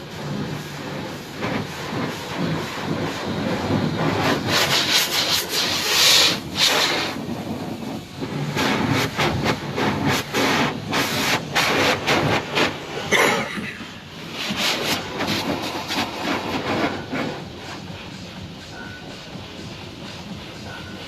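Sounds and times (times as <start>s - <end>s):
scrubbing brushes swishing: 0.0s - 20.6s
water spray: 0.0s - 21.0s.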